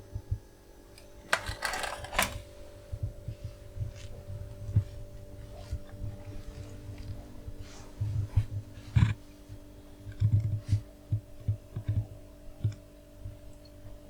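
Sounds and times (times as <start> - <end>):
refrigerator compressor hum: 0.0 - 14.0.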